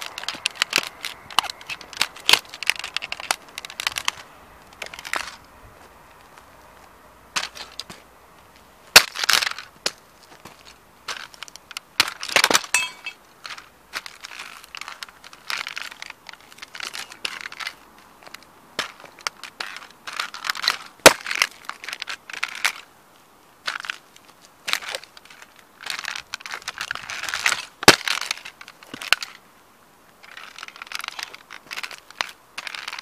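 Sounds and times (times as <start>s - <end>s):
model car crunching under boots: 0.0s - 22.9s, 23.6s - 29.4s, 30.2s - 33.0s.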